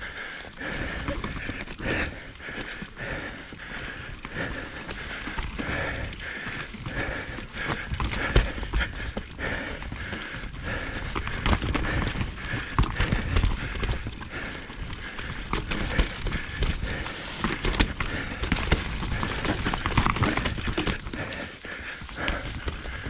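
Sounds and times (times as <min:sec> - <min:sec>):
bike rattling and clattering: 0:00.0 - 0:23.0
bike tyres rumbling over ground: 0:00.0 - 0:23.0.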